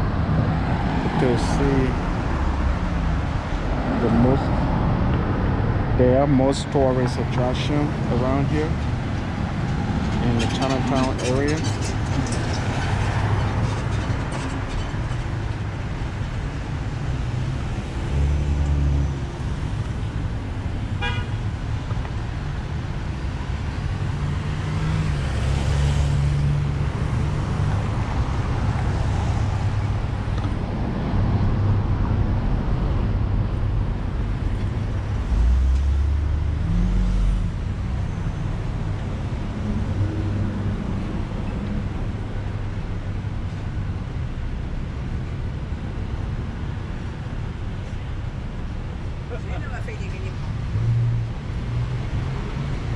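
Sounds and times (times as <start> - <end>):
cars driving past: 0.0 - 52.9
low traffic rumble: 0.0 - 52.9.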